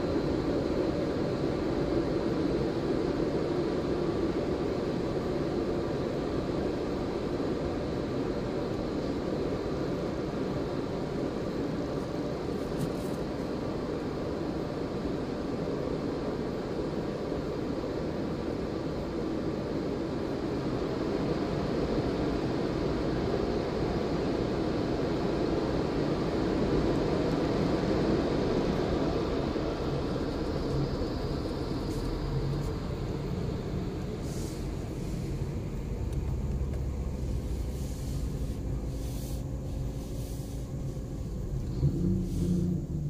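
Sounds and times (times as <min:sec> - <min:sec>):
car engine and tyres humming: 0:00.0 - 0:43.0.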